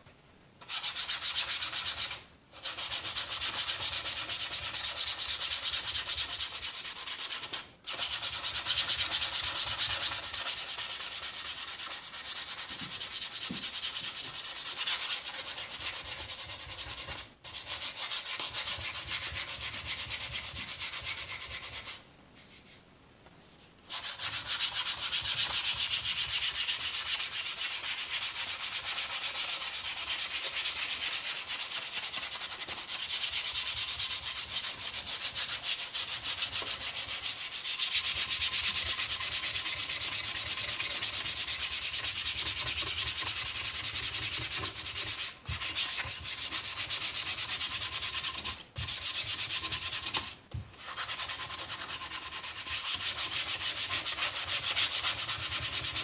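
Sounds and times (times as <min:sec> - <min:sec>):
sandpaper rubbing on wood: 0:00.6 - 0:22.7, 0:23.9 - 0:56.0.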